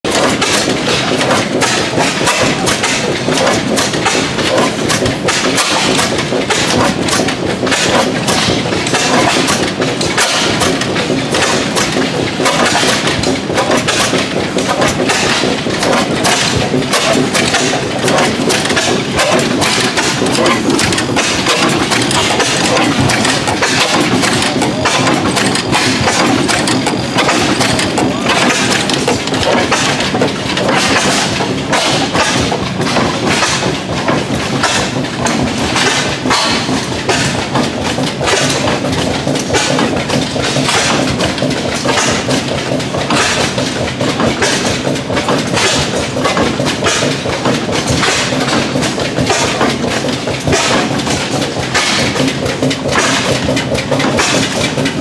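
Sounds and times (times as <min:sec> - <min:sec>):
single-cylinder engine exhaust beats: 0:00.1 - 0:55.0.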